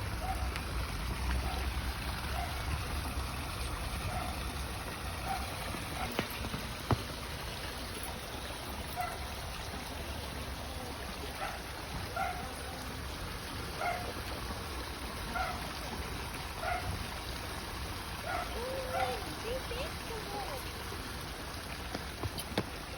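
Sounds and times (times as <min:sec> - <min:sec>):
low outdoor rumble and hiss: 0:00.0 - 0:22.2.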